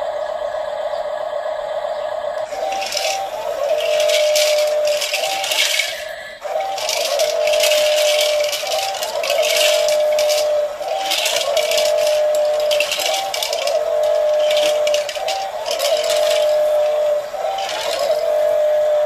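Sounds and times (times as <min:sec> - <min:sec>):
looping electronic toy tone: 0:02.4 - 0:19.0
plastic pieces rattling in drum: 0:02.5 - 0:18.7.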